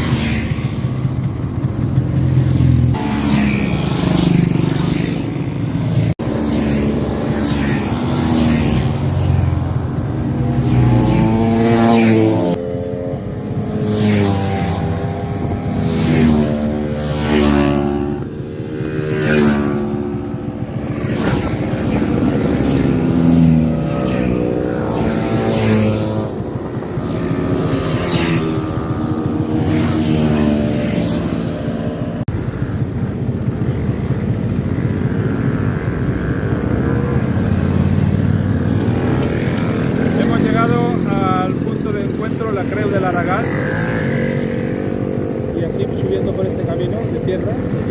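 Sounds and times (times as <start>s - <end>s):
motorcycles and scooters passing: 0.0s - 47.9s.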